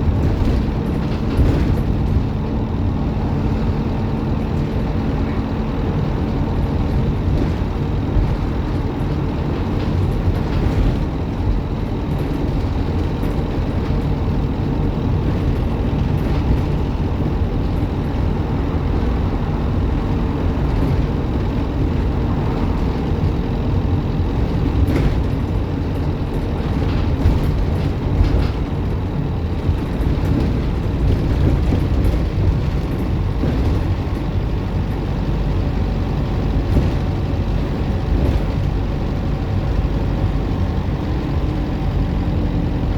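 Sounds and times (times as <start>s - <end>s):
rattles and knocks: 0.0s - 40.6s
bus engine and road rumble: 0.0s - 42.9s.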